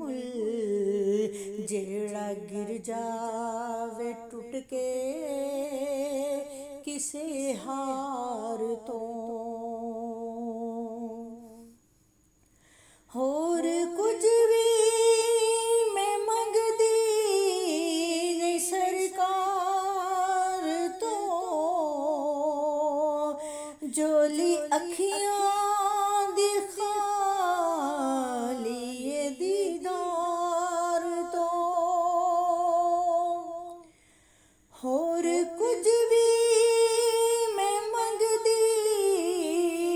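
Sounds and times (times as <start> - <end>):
woman singing unaccompanied: 0.0 - 11.8, 13.1 - 34.0, 34.7 - 39.9.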